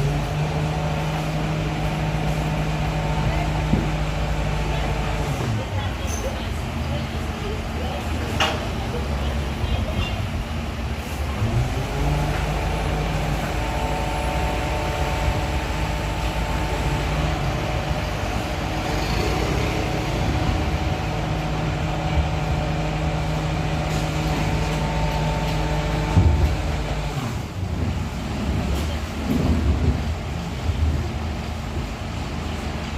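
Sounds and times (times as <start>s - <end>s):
garbage truck engine humming: 0.0s - 32.9s.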